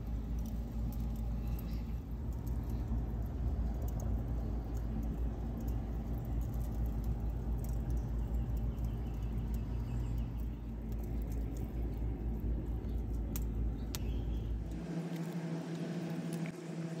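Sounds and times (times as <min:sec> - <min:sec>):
steady low hum: 0:00.0 - 0:17.0
wood fire rumbling and crackling: 0:00.0 - 0:17.0.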